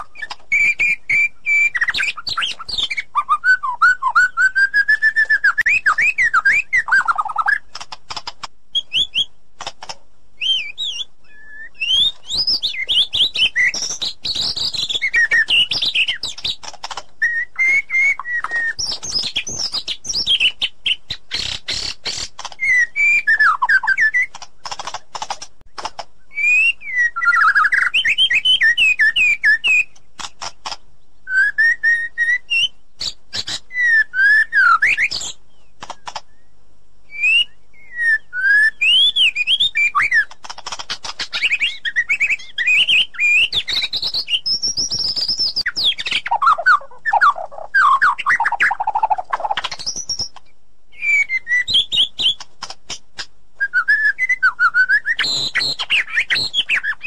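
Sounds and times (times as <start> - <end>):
sharp clicking bird notes: 0.0 - 3.3, 3.9 - 11.1, 11.7 - 30.9, 34.6 - 36.4, 38.8 - 50.5, 51.1 - 53.9
bird singing whistles and warbles: 0.0 - 9.4, 10.4 - 24.8, 26.2 - 57.0.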